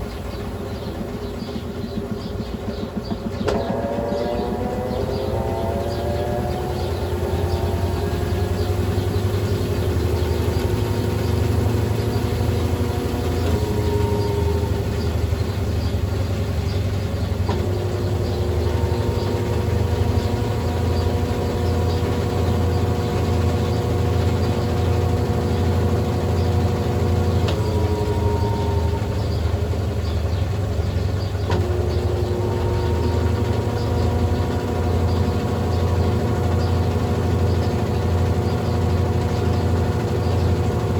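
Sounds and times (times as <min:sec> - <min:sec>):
washing machine running: 0:00.0 - 0:40.9.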